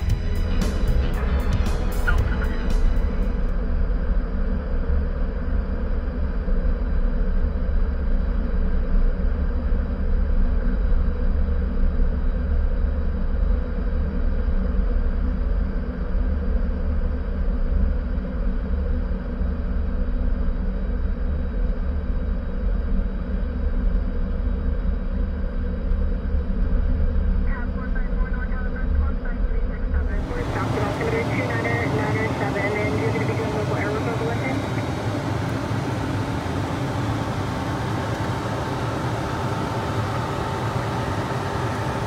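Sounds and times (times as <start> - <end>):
jet cockpit rumble: 0.0 - 42.0.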